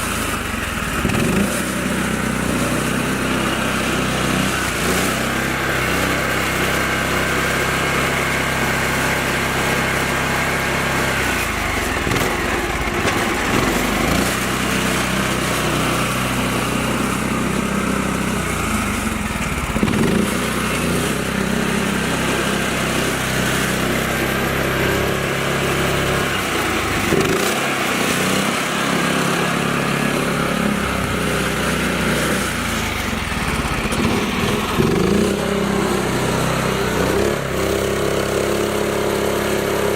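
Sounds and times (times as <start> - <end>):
mini tractor engine running: 0.0 - 39.9.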